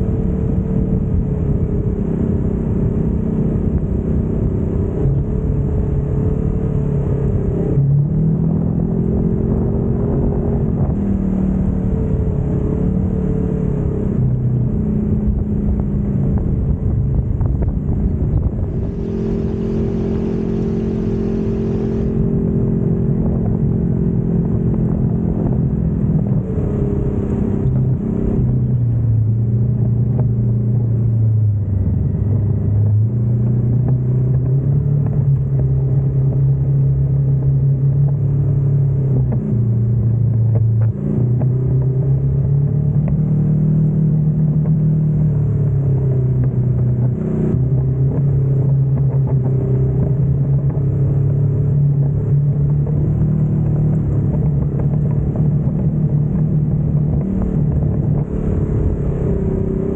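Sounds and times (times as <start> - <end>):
utv engine running: 0.0 - 59.9.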